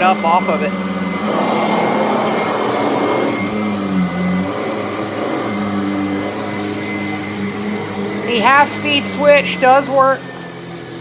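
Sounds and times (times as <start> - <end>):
vacuum cleaner motor humming: 0.0 - 11.0.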